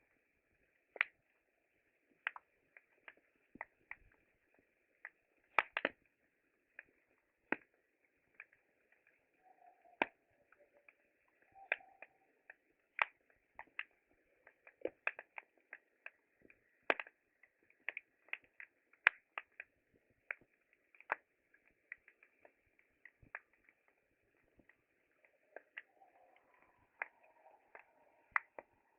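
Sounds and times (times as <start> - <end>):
campfire crackling: 0.0 - 28.9.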